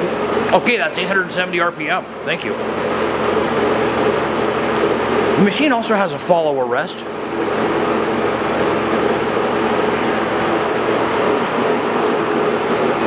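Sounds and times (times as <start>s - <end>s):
lathe running with mechanical whir: 0.0s - 13.0s.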